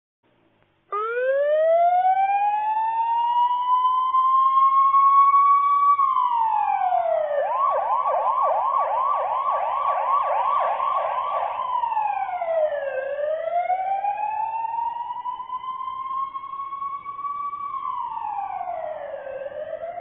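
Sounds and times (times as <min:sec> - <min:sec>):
police siren wailing and yelping: 0:00.9 - 0:20.0.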